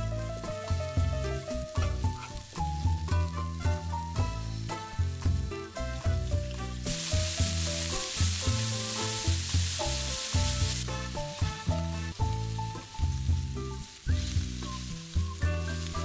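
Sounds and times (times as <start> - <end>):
background music: 0.0 - 16.0
burger patties sizzling on griddle: 0.0 - 16.0.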